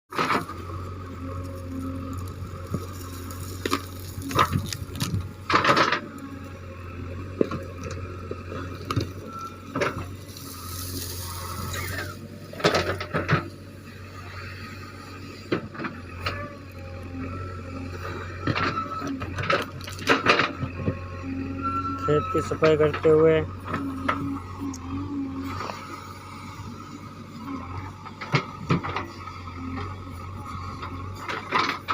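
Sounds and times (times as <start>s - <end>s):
diesel engine running: 0.1s - 31.9s
bushes cracking and squealing: 0.3s - 31.9s.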